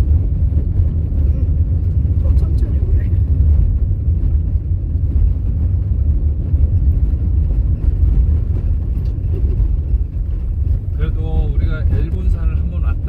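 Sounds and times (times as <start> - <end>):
vehicle driving rumble: 0.0 - 13.0.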